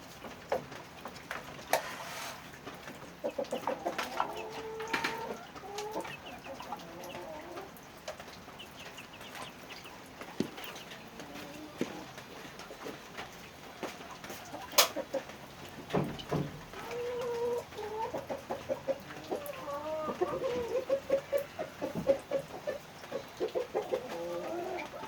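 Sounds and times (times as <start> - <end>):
chickens clucking: 0.1 - 25.0.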